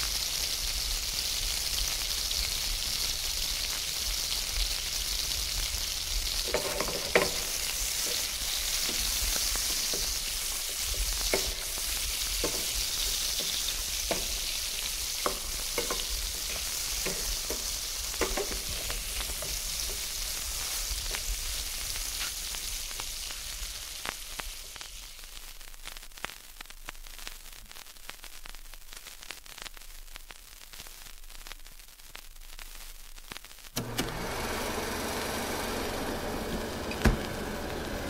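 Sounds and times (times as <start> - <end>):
bacon sizzling in a frying pan: 0.0 - 33.8.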